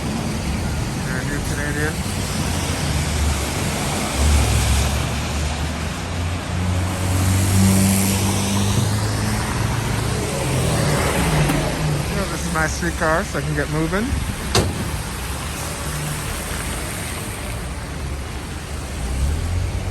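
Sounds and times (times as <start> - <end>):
tyres hissing on wet road: 0.0 - 19.9
vehicle engines running: 0.0 - 19.9.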